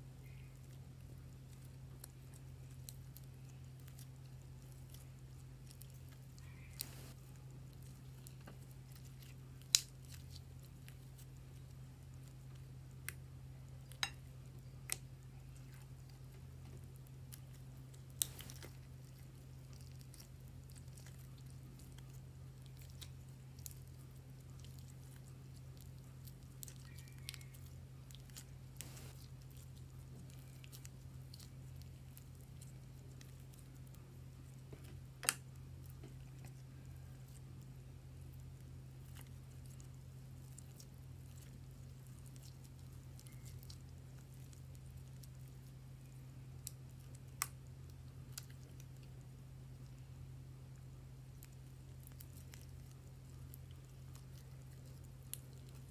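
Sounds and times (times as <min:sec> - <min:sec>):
slime squishing: 0:00.0 - 0:50.1
steady low hum: 0:00.0 - 0:55.9.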